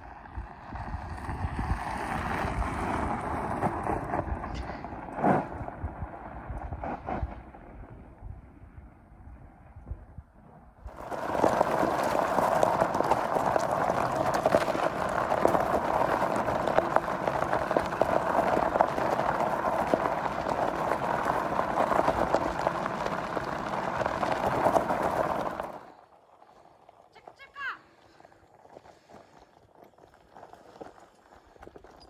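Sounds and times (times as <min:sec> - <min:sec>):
tyres rattling over gravel: 0:00.2 - 0:07.7, 0:10.9 - 0:32.0.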